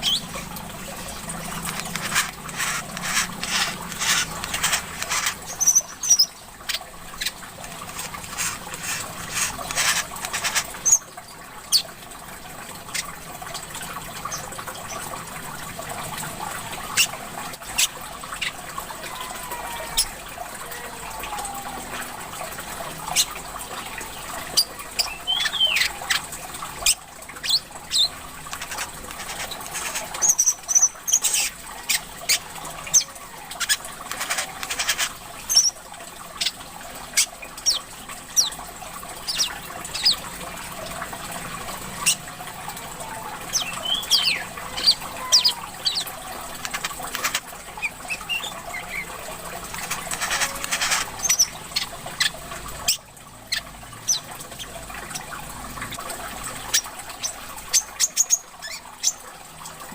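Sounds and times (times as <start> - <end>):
trickle of running water: 0.0 - 59.9.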